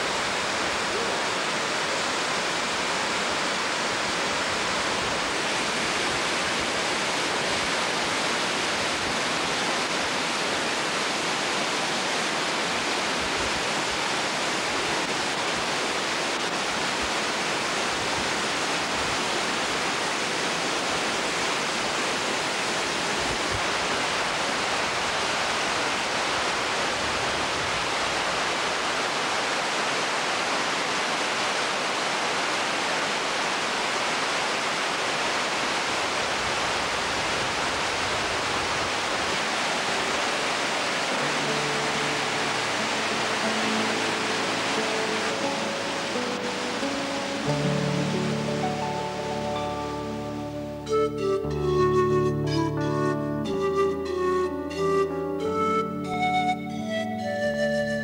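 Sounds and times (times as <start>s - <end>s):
water rushing over rocks: 0.0s - 51.0s.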